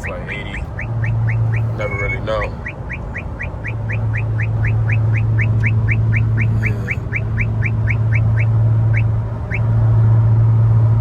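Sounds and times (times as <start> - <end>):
car engine drone: 0.0 - 11.0
road noise: 0.0 - 11.0
radar detector chirps: 0.3 - 9.7.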